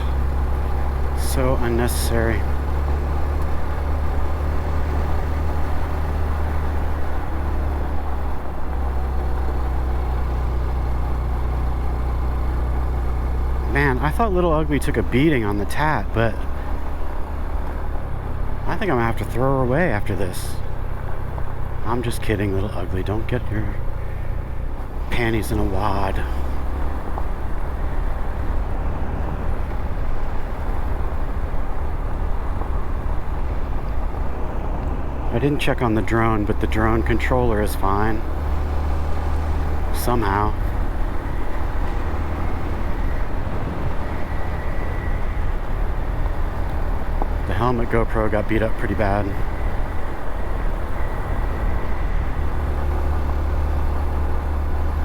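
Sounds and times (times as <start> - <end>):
motorcycle engine droning: 0.0 - 55.0
road noise: 0.0 - 55.0.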